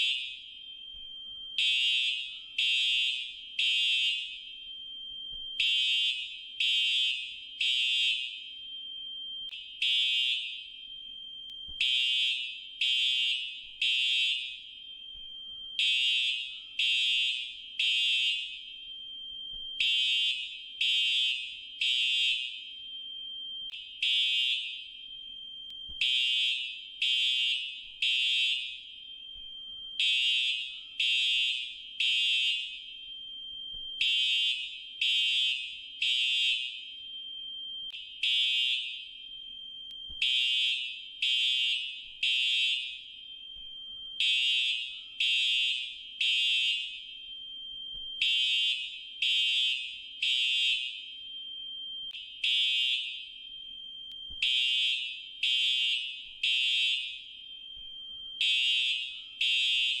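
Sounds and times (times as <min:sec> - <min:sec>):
fire alarm beeping: 0:00.0 - 1:00.0.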